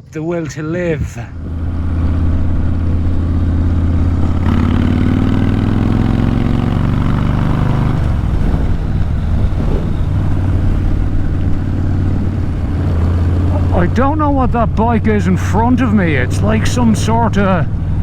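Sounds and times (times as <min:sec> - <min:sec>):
motorcycle engine accelerating: 0:01.3 - 0:18.0.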